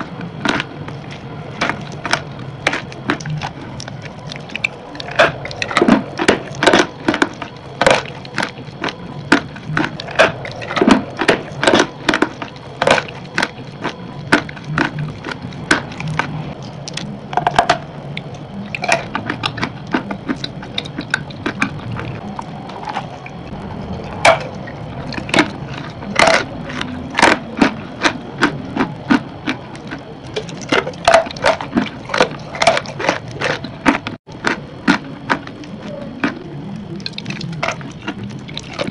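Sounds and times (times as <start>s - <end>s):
chewing crunchy chalk: 0.0s - 38.9s.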